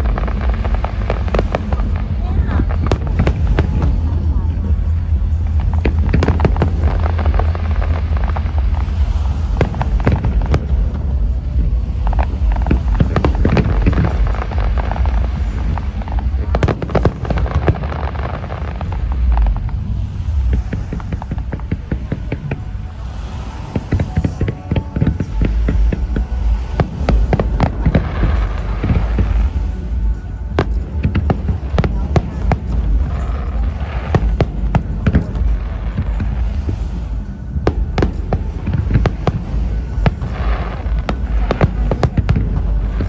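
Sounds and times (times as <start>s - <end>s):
deep rumble of booms: 0.0s - 43.0s
fireworks cracks and bangs: 0.0s - 43.0s.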